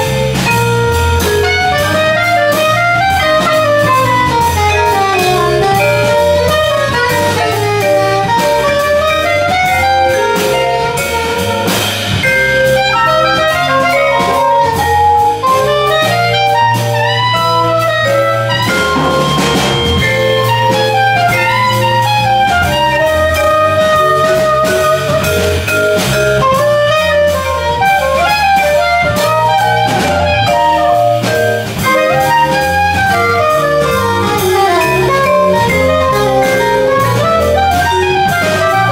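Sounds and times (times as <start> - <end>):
drum kit: 0.0 - 38.9
electric bass: 0.0 - 38.9
soprano saxophone melody: 0.0 - 38.9
vibraphone: 0.0 - 38.9.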